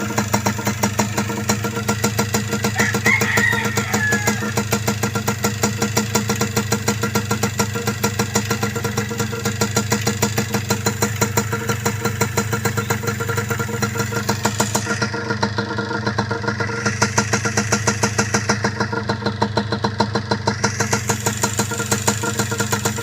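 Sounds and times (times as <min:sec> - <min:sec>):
two-stroke engine idling: 0:00.0 - 0:23.0.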